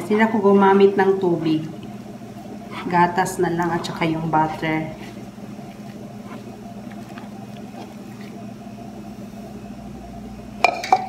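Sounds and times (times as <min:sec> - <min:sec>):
hands mixing dough: 0:00.0 - 0:10.4
steady low hum: 0:00.0 - 0:11.0.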